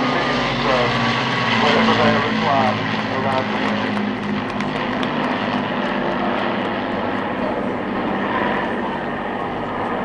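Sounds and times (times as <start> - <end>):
propeller aircraft engines droning: 0.0 - 10.0.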